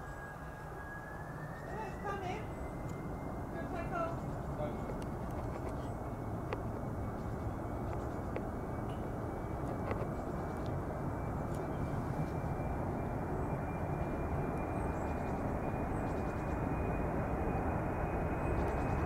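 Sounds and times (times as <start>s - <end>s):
high jet engine whine: 0.0s - 19.0s
jet engines rumbling: 0.0s - 19.0s.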